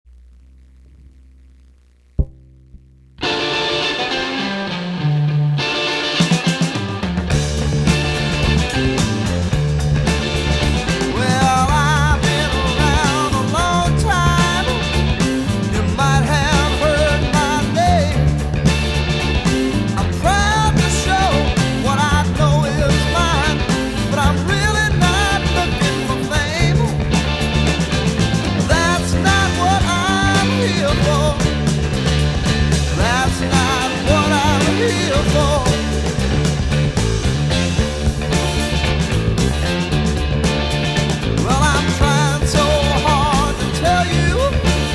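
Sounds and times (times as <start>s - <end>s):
electric bass line: 0.0s - 44.9s
high melodic guitar lines: 2.2s - 44.9s
blues-rock band playing: 3.2s - 44.9s.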